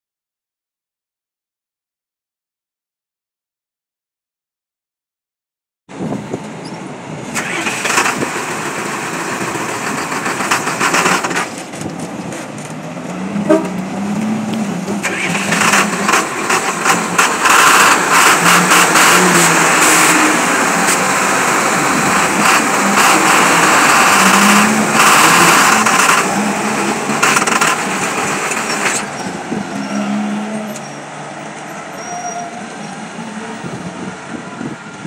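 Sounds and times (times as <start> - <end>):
truck diesel engine running: 6.0 - 35.0.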